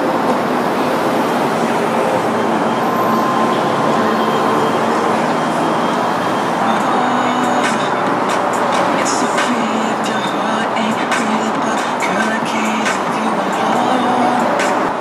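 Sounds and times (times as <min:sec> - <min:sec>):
heavy city street traffic: 0:00.0 - 0:15.0.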